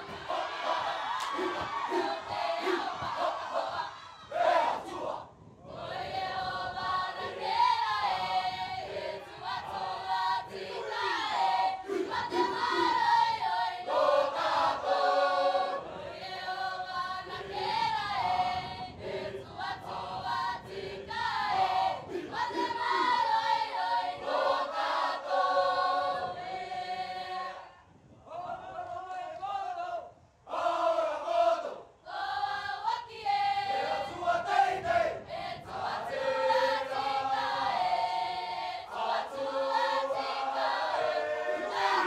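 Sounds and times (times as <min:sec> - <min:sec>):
group of voices singing in chorus: 0:00.0 - 0:27.8, 0:30.5 - 0:42.0.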